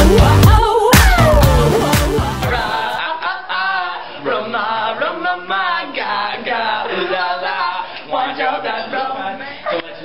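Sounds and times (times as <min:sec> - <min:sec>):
group of young people singing: 0:00.0 - 0:10.0.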